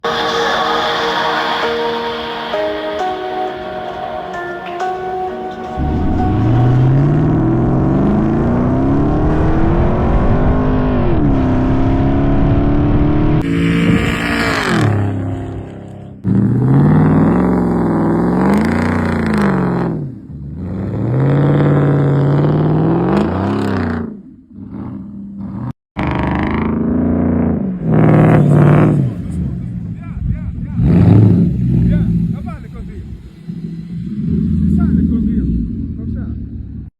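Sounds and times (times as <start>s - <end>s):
car engine revving: 5.7s - 36.9s.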